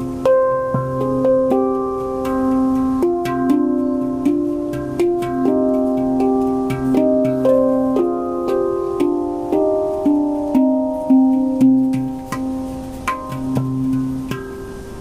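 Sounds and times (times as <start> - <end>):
deep low handpan note: 0.0 - 15.0
handpan melody: 0.0 - 15.0.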